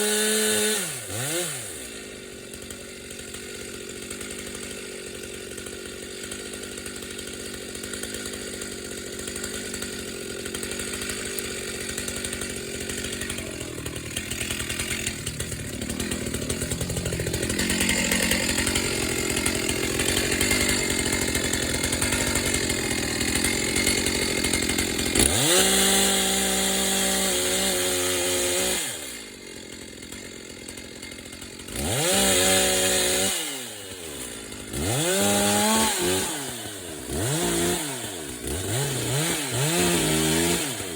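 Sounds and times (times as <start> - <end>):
chainsaw cutting wood: 0.0 - 40.9
chainsaw revving and idling: 0.0 - 40.9.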